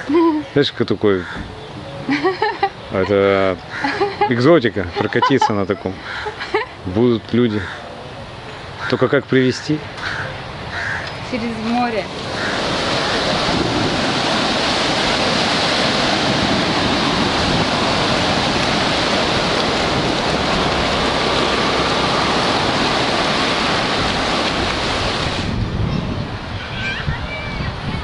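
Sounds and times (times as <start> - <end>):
sea surf on sandy beach: 0.0 - 28.0.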